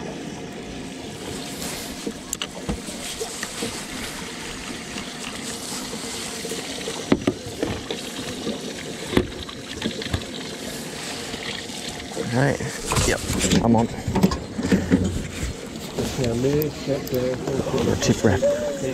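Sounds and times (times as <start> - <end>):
water lapping against hull: 0.0 - 18.9.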